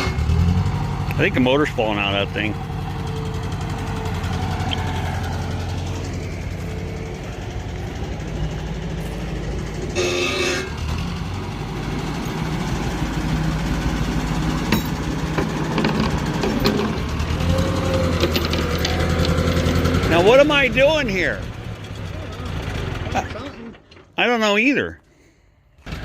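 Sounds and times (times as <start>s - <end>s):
loader engine running: 0.0s - 24.8s, 25.8s - 26.0s.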